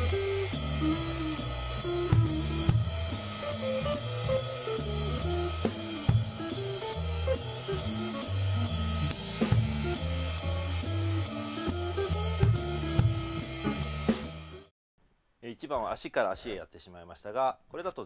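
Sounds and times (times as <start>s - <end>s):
jazz drum kit playing: 0.0s - 14.7s
recorded accompaniment with bass line: 0.0s - 14.7s.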